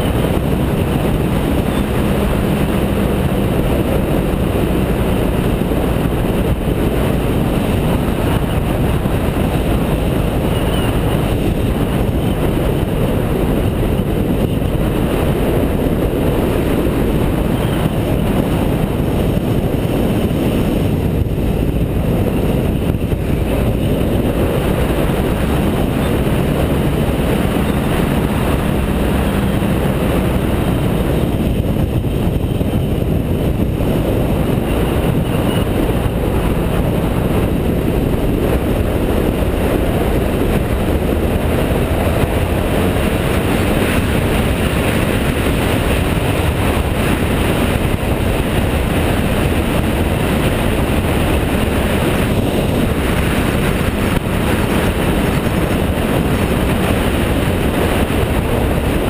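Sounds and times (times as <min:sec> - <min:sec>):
motorcycle engine running: 0:00.0 - 0:59.0
road noise: 0:00.0 - 0:59.0
wind rushing over microphone: 0:00.0 - 0:59.0.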